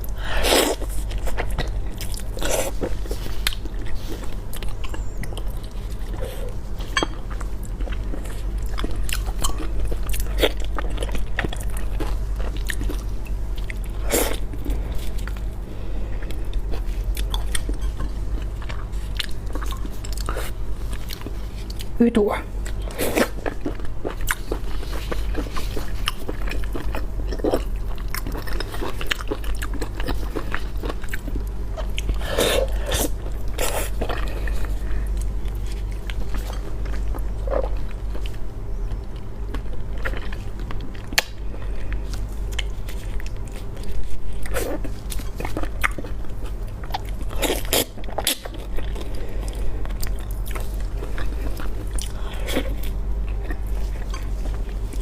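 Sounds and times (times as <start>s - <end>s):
person chewing and biting: 0.0s - 22.0s, 22.6s - 55.0s
steady low hum: 0.0s - 55.0s.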